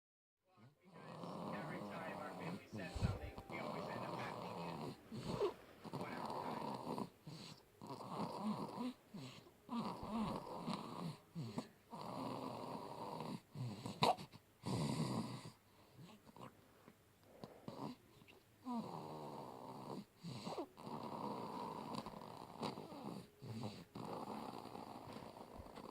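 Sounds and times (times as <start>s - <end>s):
baby snoring loudly: 0.9s - 16.5s, 17.4s - 18.0s, 18.6s - 25.9s.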